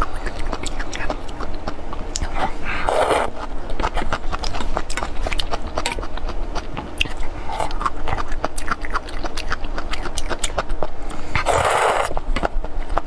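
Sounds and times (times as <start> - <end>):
person chewing noodles: 0.0 - 13.0.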